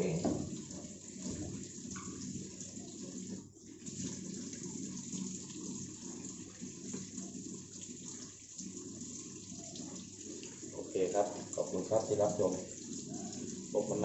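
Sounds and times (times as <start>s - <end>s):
water rushing into washing machine: 0.0s - 14.0s.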